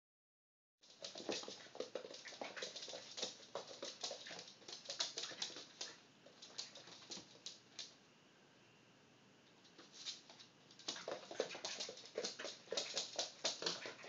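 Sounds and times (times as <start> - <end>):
dog claws scrabbling on wooden floor: 0.9 - 7.9, 9.8 - 14.0.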